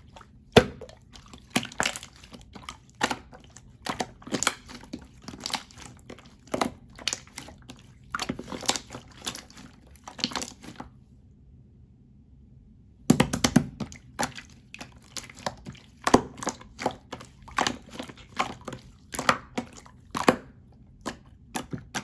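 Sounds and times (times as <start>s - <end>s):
slime squished by hand: 0.0s - 10.9s, 13.1s - 22.0s.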